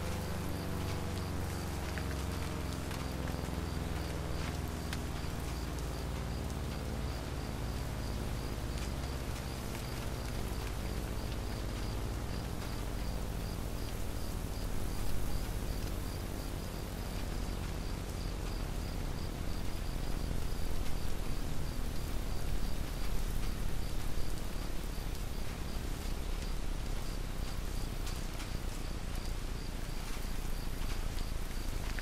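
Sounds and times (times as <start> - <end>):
background hiss: 0.0 - 32.0.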